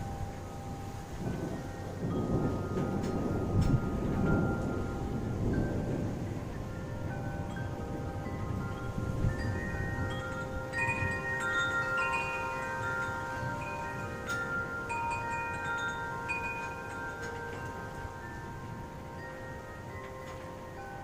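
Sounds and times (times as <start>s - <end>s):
low rumble of wind: 0.0s - 21.0s
wind chimes ringing: 0.0s - 21.0s.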